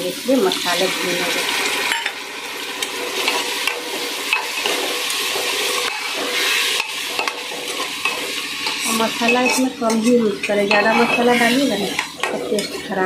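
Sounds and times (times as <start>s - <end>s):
spice paste sizzling in oil: 0.0s - 13.0s.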